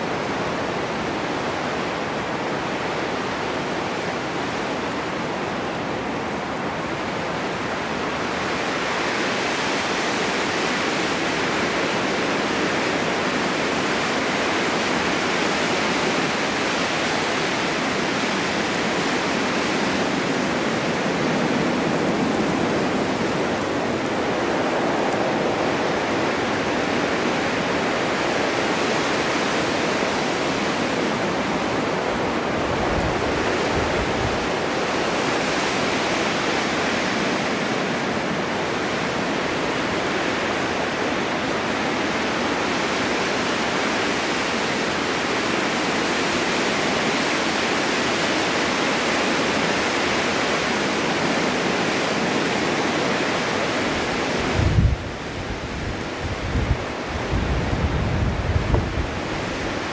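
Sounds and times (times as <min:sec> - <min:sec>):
blowing wind hiss: 0:00.0 - 0:59.9.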